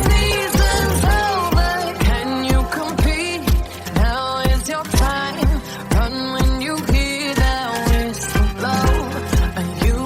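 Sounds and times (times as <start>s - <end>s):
dance-pop music: 0.0s - 10.0s
steady kick drum: 0.0s - 10.0s.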